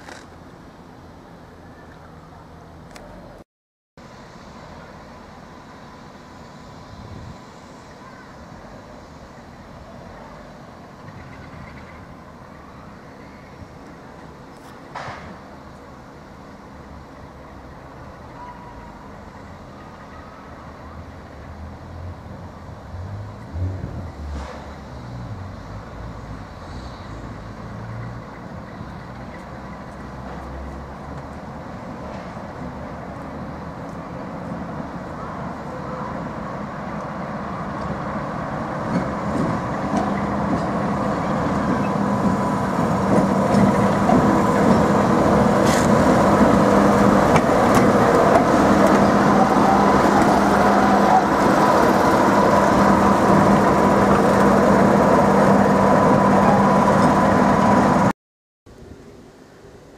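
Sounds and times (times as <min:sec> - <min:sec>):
diesel locomotive engine: 0:04.0 - 0:58.1.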